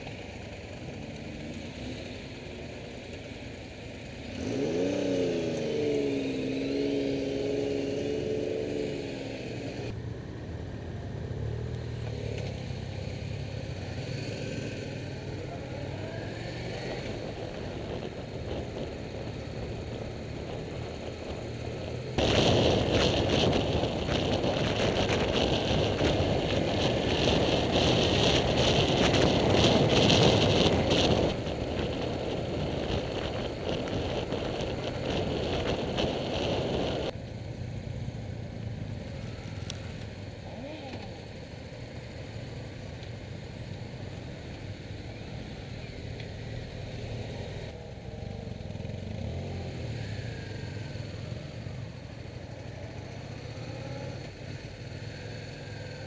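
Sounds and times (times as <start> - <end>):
motorcycle engine: 0.0 - 56.0
wind and road rushing noise: 0.0 - 56.0.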